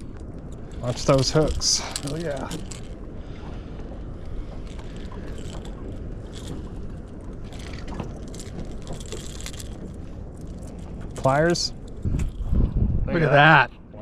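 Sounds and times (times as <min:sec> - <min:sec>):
light clicks and rattles: 0:00.0 - 0:12.6
wind and water noise: 0:00.0 - 0:14.0.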